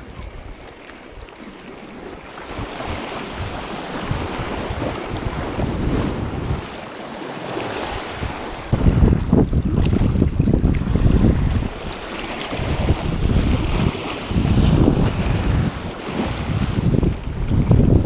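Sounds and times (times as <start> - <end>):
sea surf washing over rocks: 1.4 - 18.0
wind buffeting microphone: 2.4 - 6.8, 7.8 - 18.0.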